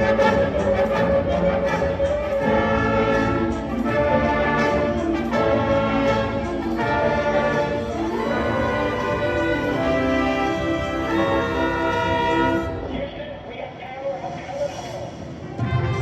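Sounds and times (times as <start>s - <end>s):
brass and wind ensemble chords: 0.0s - 13.5s, 15.4s - 16.0s.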